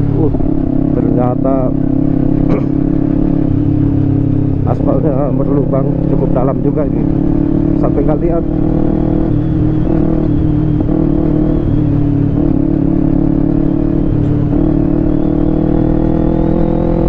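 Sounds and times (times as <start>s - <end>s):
motorcycle engine cruising: 0.0s - 17.0s
wind and road noise: 0.0s - 17.0s.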